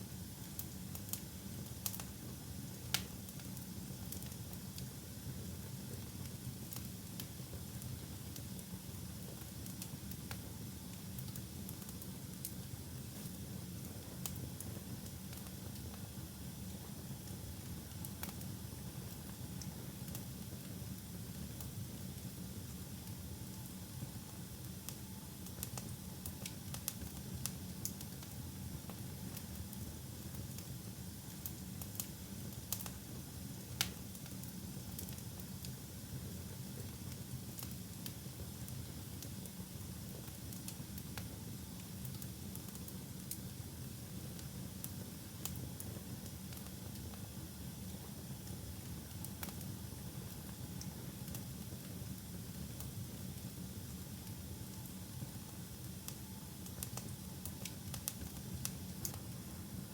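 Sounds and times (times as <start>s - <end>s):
wood fire rumble and hiss: 0.0s - 59.9s
fire crackles and pops: 0.4s - 59.9s.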